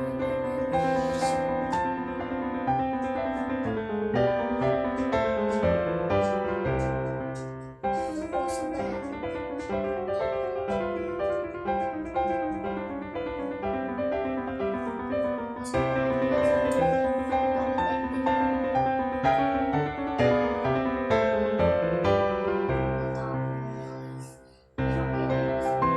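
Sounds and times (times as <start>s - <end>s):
piano melody: 0.0s - 25.9s.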